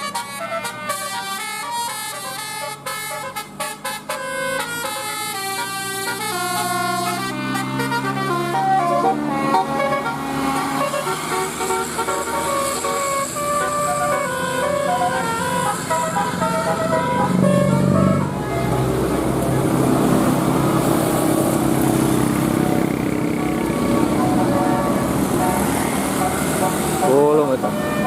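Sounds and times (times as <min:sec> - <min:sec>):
musical bus horn playing a tune: 0:00.0 - 0:18.7, 0:22.5 - 0:28.0
traffic engines passing: 0:00.0 - 0:28.0.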